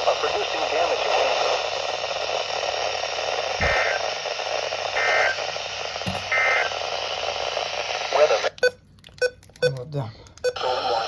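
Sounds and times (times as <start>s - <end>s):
radio static hiss: 0.0s - 8.6s, 10.6s - 11.0s.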